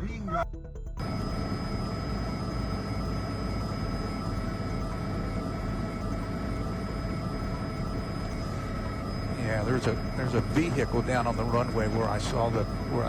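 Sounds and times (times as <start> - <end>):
helicopter drone: 0.0 - 13.0
high whining tones: 0.3 - 13.0.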